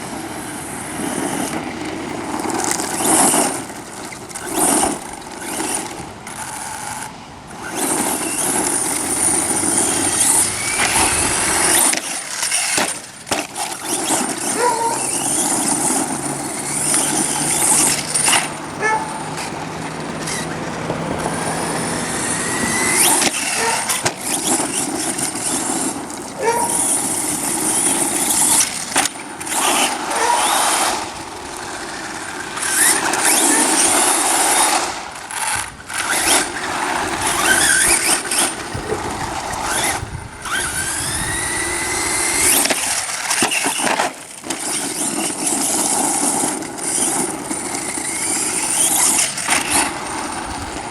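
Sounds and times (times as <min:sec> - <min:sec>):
electric motor whining: 0:00.0 - 0:50.9
tyre noise rushing: 0:00.0 - 0:50.9.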